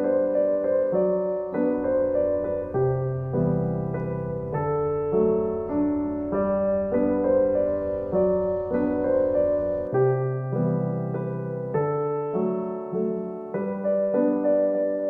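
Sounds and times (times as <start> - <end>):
gentle slow piano piece: 0.0 - 15.0.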